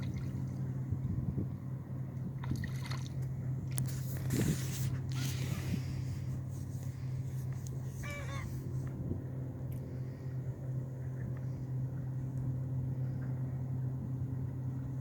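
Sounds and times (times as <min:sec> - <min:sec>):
motorboat engine humming: 0:00.0 - 0:15.0
water and wind noise: 0:00.0 - 0:15.0.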